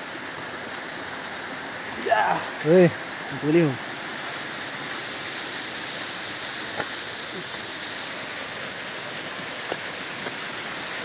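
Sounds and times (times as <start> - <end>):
water rushing down waterfall: 0.0 - 11.0.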